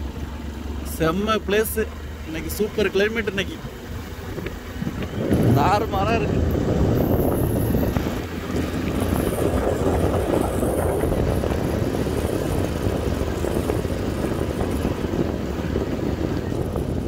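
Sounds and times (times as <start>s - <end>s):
motorcycle engine drone: 0.0s - 17.0s
wind rushing over microphone: 3.2s - 17.0s.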